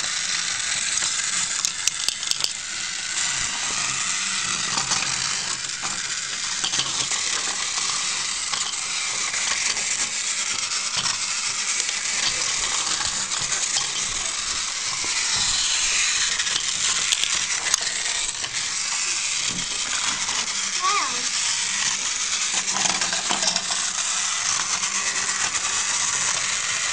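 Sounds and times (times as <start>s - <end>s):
toy train motor whirring: 0.0s - 26.9s.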